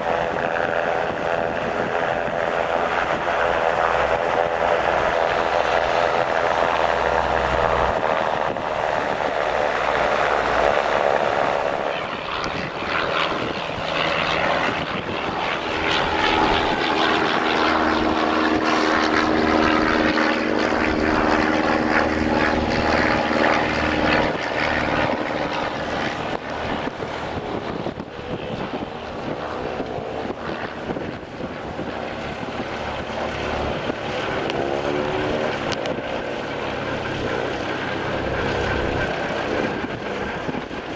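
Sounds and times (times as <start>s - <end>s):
light aircraft engine running: 0.0s - 40.9s.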